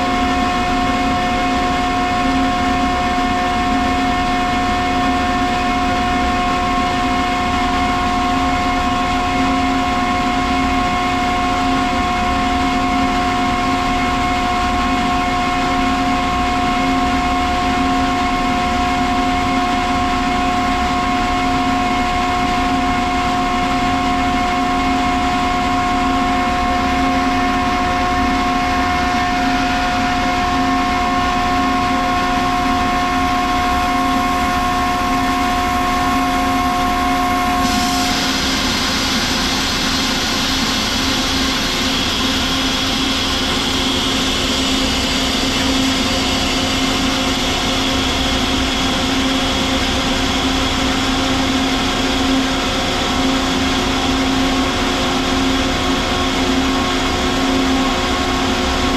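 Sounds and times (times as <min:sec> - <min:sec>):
air compressor humming and whining: 0:00.0 - 0:58.9.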